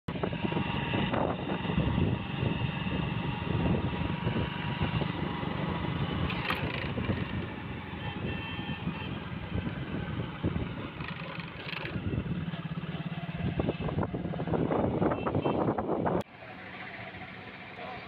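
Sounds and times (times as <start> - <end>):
motorcycle engine running: 0.1 - 18.0
road and riding noise: 0.1 - 18.0.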